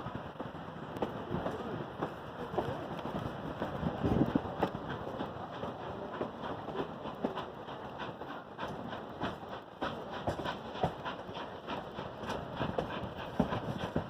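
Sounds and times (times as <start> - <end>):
railroad car rumbling on track: 0.0 - 14.0
wheels and couplings clacking: 0.0 - 14.0.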